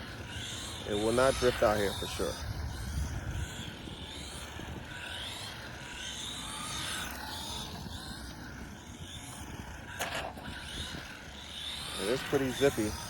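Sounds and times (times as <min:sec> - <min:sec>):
rc car motor whining: 0:00.0 - 0:13.0.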